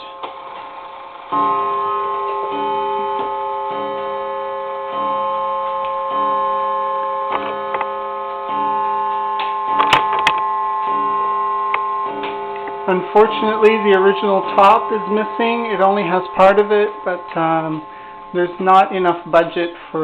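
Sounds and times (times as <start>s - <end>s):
clock gong strokes ringing: 0.0s - 20.0s.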